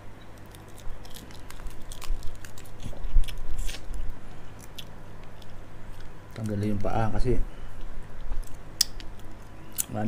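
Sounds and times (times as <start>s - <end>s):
crunching and chewing: 0.3s - 6.8s, 7.8s - 10.0s.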